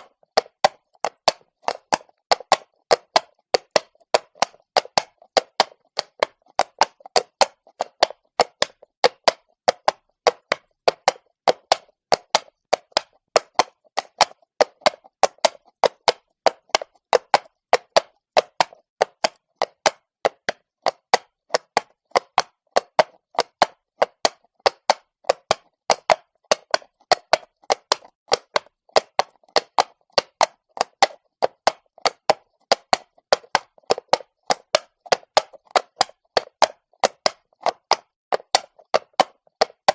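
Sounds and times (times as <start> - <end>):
horse hooves clopping on stone: 0.0 - 39.9.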